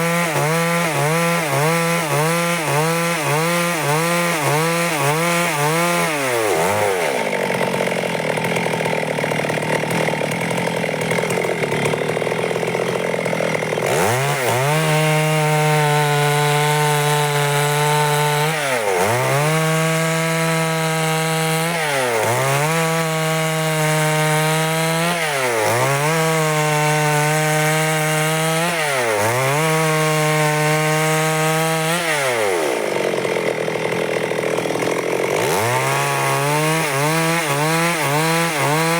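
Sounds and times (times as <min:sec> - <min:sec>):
chainsaw sawing wood: 0:00.0 - 0:38.9.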